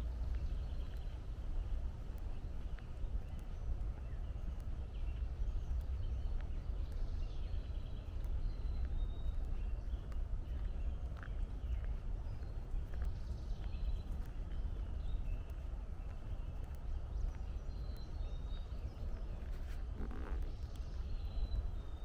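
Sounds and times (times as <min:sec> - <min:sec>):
footsteps on a trail: 0:00.1 - 0:22.0.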